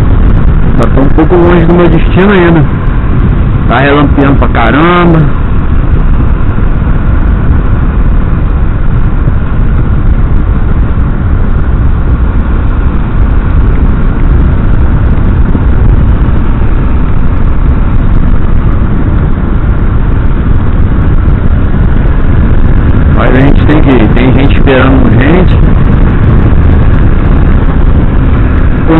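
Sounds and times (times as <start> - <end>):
motorcycle engine: 0.0 - 28.9
wind rush on microphone: 0.0 - 28.9.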